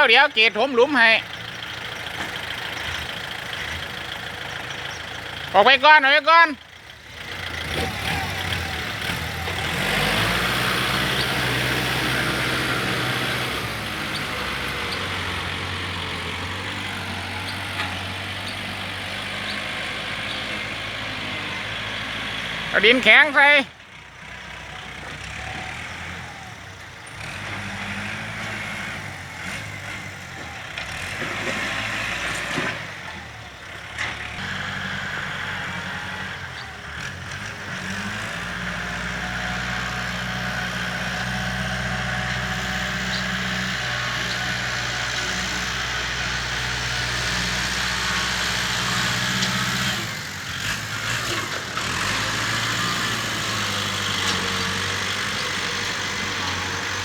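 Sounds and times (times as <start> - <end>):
diesel engine of earth-moving machine: 0.0 - 57.0.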